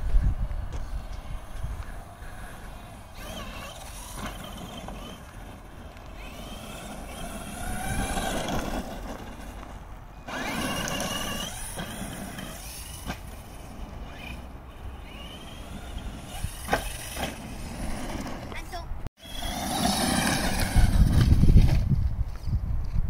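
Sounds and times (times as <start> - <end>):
toy truck electric motor whining: 1.3 - 21.7.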